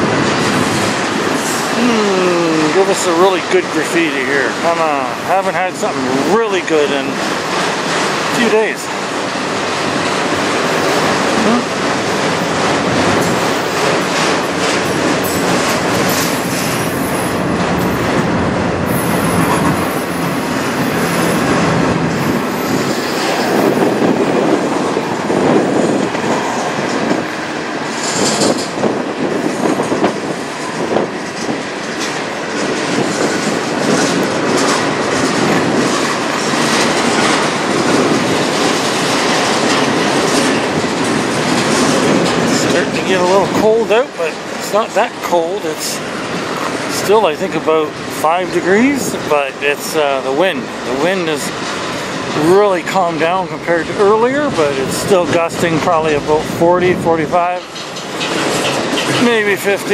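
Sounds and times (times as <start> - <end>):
freight train rumble: 0.0 - 59.9
wheels clacking over rail joints: 0.0 - 59.9.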